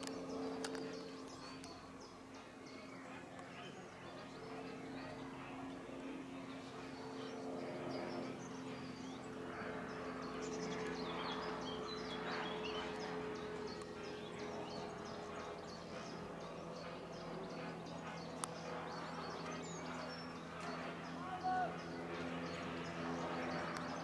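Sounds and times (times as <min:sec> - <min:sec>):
low mechanical hum: 0:00.0 - 0:24.0
small birds chirping: 0:00.0 - 0:24.0.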